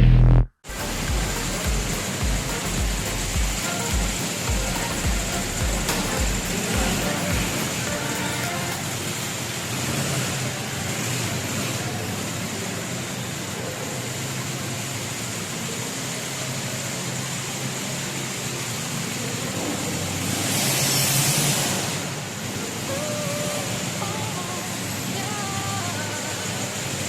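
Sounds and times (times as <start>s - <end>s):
road traffic noise: 0.6s - 27.0s.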